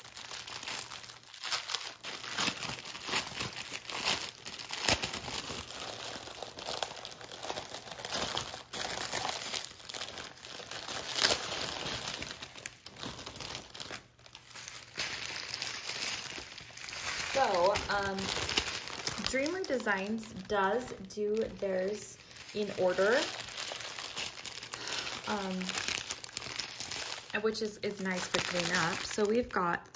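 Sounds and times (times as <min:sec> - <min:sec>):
sharp crackles: 0:00.0 - 0:29.6
plastic bags crinkling: 0:00.0 - 0:29.9.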